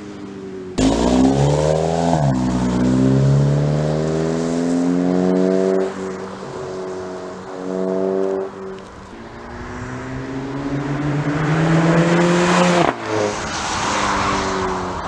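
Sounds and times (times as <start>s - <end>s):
car accelerating past: 0.8s - 15.0s.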